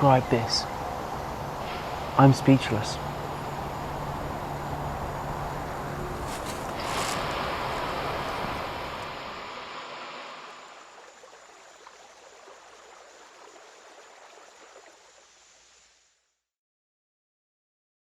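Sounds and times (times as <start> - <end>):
steady rushing outdoor noise: 0.0 - 15.8.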